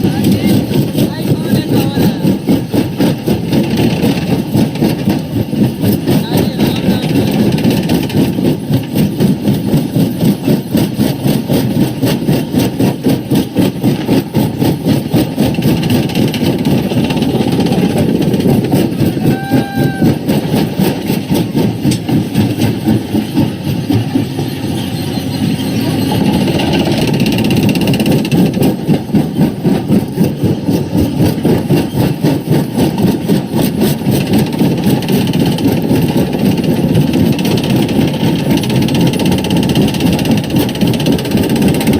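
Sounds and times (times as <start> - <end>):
rock crusher droning: 0.0 - 41.9.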